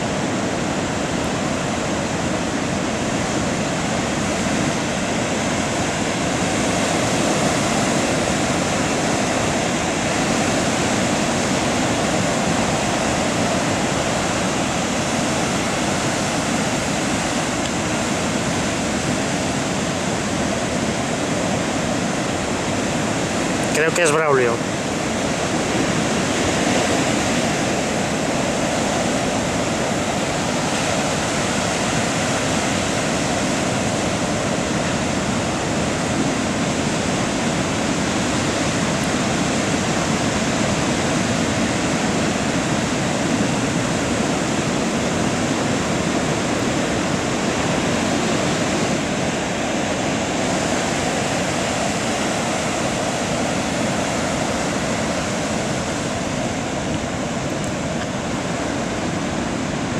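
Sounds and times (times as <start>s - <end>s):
heavy surf breaking: 0.0s - 59.9s.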